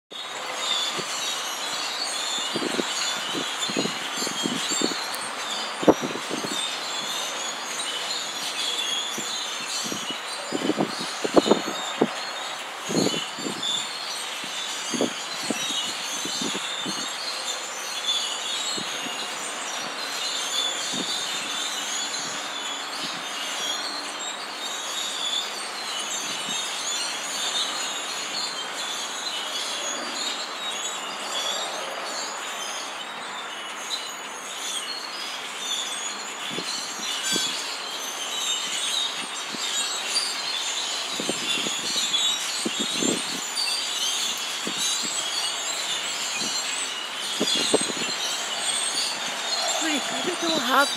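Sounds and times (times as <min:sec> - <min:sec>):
flock of birds chattering: 0:00.4 - 0:50.9.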